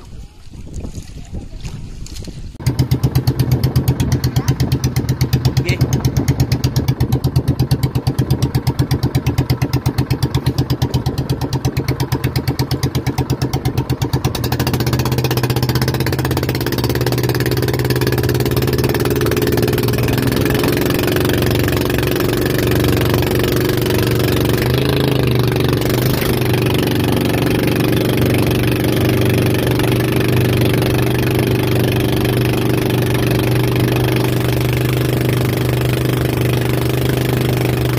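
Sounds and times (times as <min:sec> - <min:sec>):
boat engine thudding: 0:02.6 - 0:37.9.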